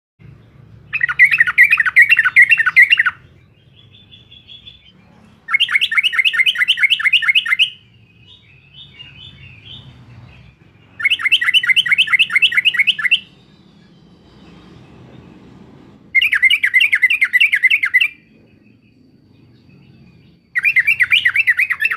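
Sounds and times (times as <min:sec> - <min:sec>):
bulbul singing chattering song: 0:00.2 - 0:21.9
soft bird twittering: 0:00.2 - 0:21.9.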